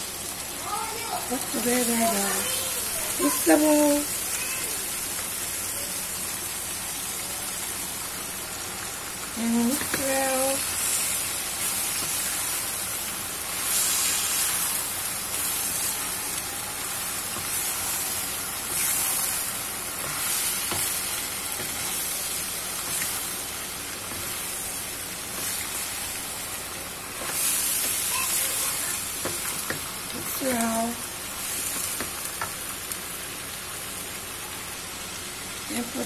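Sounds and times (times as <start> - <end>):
spatula stir-frying: 0.0 - 36.0
vegetables sizzling in a hot pan: 0.0 - 36.0.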